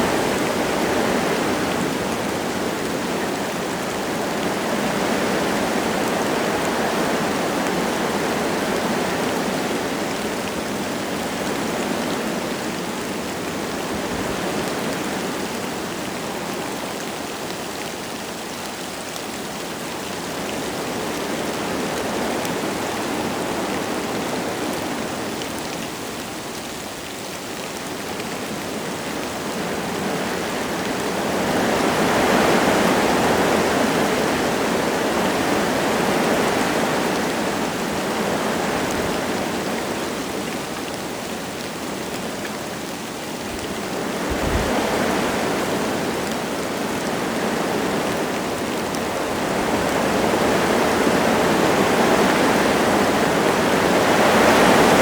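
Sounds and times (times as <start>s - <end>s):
light rain falling: 0.0s - 55.0s
wind gusting through trees: 0.0s - 55.0s.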